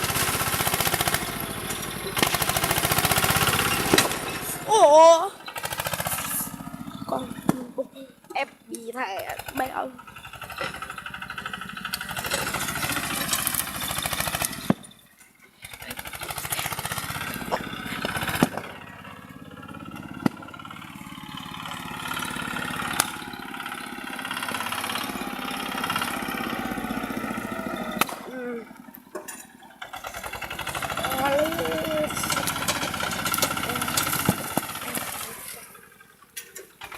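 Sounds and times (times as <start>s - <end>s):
small tractor engine running: 0.0s - 36.9s.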